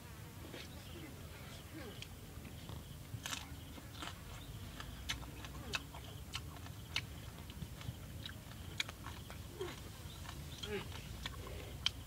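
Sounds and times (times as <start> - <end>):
insect hum: 0.0 - 12.0
man chewing food: 1.5 - 12.0.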